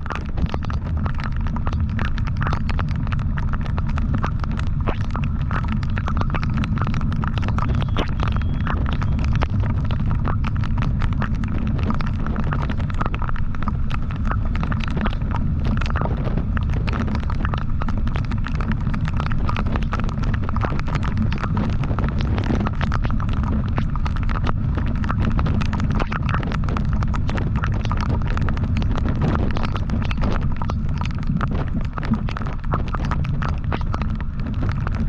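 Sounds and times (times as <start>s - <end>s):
sharp crackles: 0.0s - 35.0s
wind rumble on microphone: 0.0s - 35.0s.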